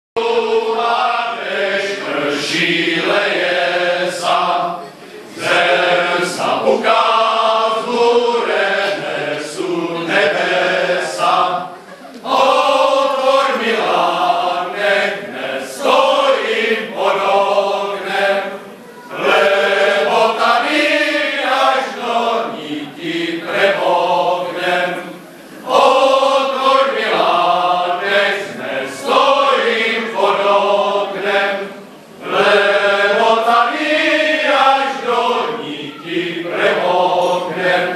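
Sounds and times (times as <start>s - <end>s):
men's choir singing unaccompanied: 0.2s - 37.9s.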